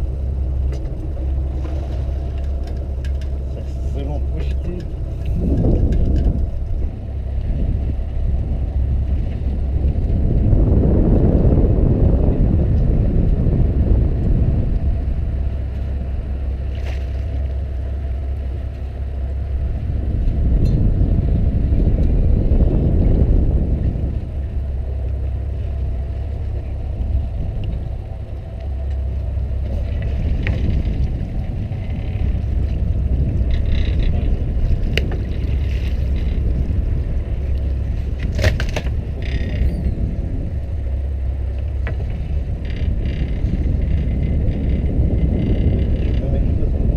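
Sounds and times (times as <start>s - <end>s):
boat engine idling: 0.0s - 46.9s
wind noise on microphone: 0.0s - 46.9s.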